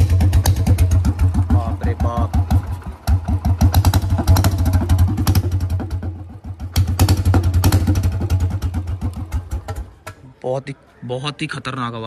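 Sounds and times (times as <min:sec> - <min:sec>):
motorcycle engine open exhaust: 0:00.0 - 0:10.3.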